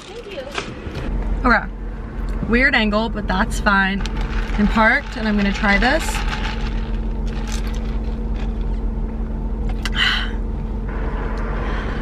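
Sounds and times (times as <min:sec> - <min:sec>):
car cabin hum: 0:00.0 - 0:11.5.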